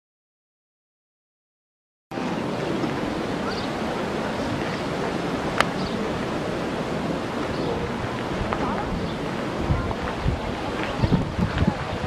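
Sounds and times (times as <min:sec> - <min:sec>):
distant crowd voices: 0:02.2 - 0:12.0
wind on microphone: 0:02.2 - 0:12.0.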